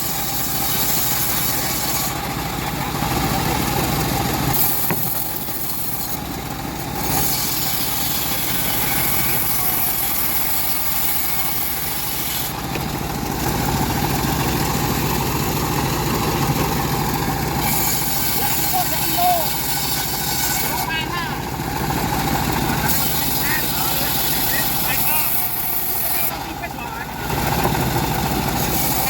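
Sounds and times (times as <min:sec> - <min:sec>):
bandsaw mill engine running: 0:00.0 - 0:29.0.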